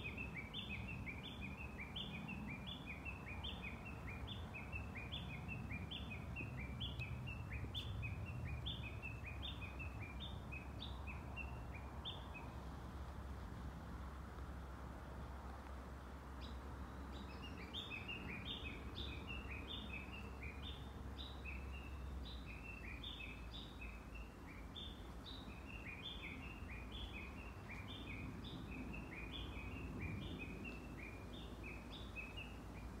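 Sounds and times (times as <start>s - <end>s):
small birds chirping: 0.0s - 13.3s, 15.6s - 33.0s
low outdoor background noise: 0.0s - 33.0s.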